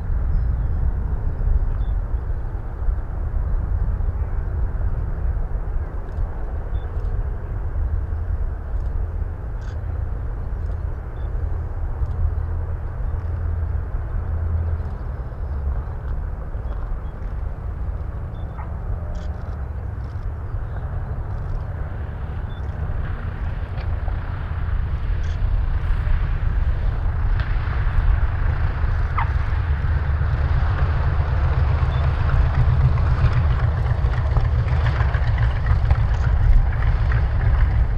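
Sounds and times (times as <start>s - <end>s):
propeller plane engines rumbling: 0.0s - 37.9s.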